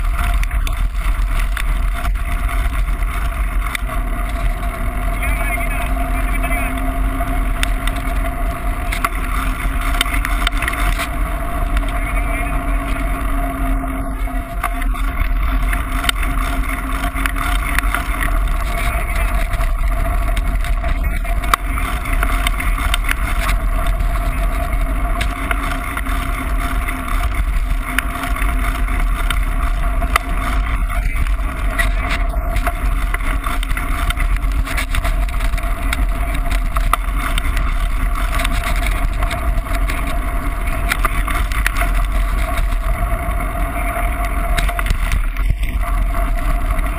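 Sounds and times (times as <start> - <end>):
bike rattles and clicks: 0.0 - 46.9
bike tyre noise: 0.0 - 46.9
constant low hum: 0.0 - 46.9
wind rushing on microphone: 0.0 - 46.9.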